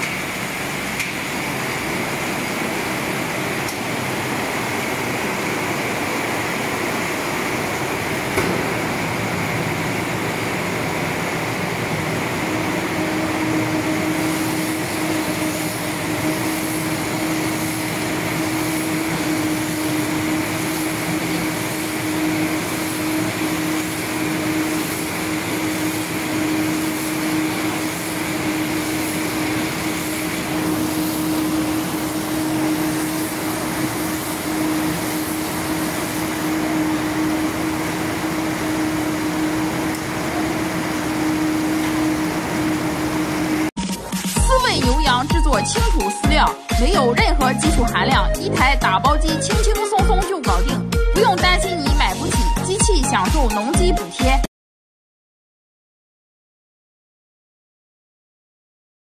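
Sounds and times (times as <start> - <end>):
baler mechanical hum and rattle: 0.0 - 53.6
high whine: 0.0 - 53.6.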